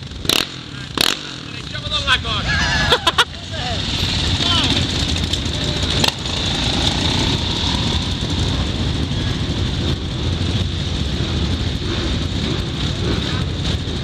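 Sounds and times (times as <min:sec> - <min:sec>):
engine revving: 0:00.0 - 0:14.0
quad bike engines idling: 0:00.0 - 0:14.0.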